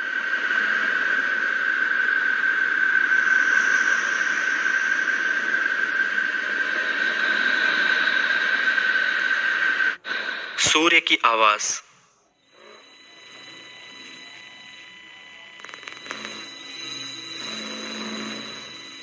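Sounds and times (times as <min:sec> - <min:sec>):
steady high tone: 0:00.0 - 0:19.0.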